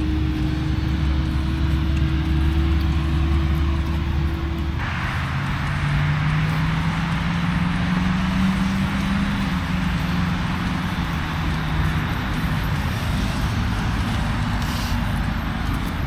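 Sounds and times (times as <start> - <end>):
steady hiss: 0.0 - 16.0
vehicle engine running: 0.0 - 16.0.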